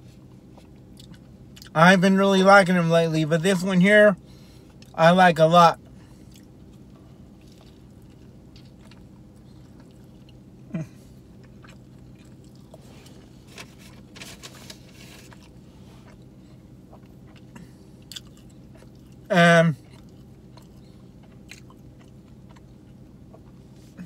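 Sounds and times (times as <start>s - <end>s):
man chewing food: 0.0s - 1.7s, 5.8s - 24.0s
low hum: 0.0s - 24.0s.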